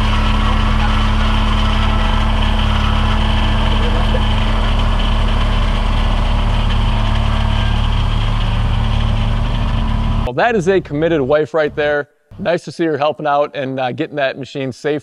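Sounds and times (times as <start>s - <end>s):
tractor diesel engine running: 0.0s - 12.5s.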